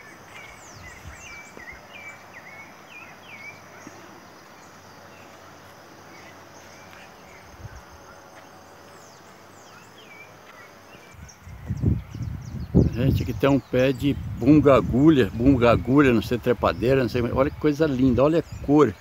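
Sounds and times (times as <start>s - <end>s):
insects droning: 0.0s - 19.0s
small birds chirping: 0.0s - 19.0s.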